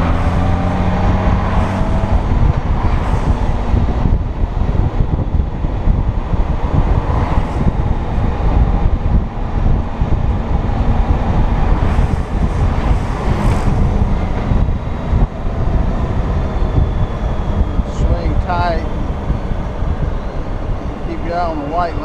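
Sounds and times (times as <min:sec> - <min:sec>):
motorcycle engine and road noise: 0:00.0 - 0:22.0
wind buffeting microphone: 0:00.0 - 0:22.0.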